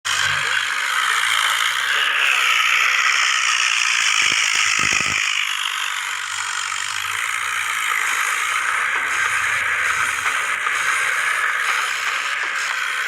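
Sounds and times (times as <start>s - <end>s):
diesel engine rattling: 0.1s - 13.0s.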